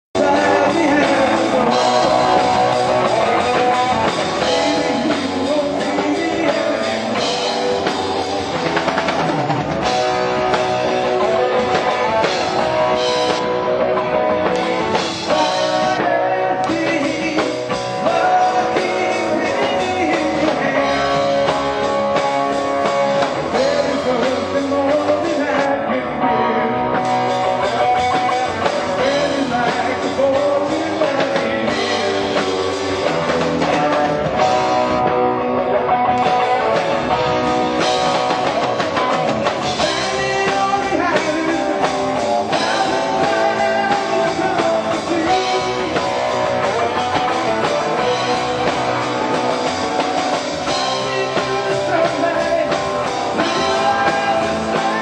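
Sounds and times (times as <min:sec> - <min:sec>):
bass guitar: 0:00.0 - 0:55.0
drum kit: 0:00.1 - 0:55.0
electric guitars: 0:00.1 - 0:55.0.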